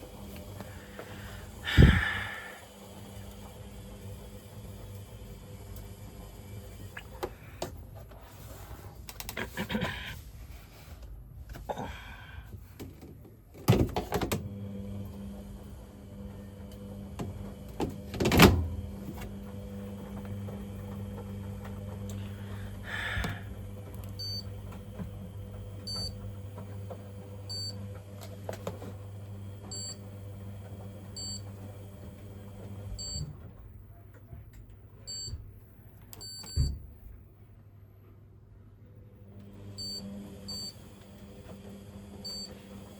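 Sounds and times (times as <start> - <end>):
tumble dryer motor hum: 0.0 - 9.9, 11.4 - 33.7, 39.2 - 42.9.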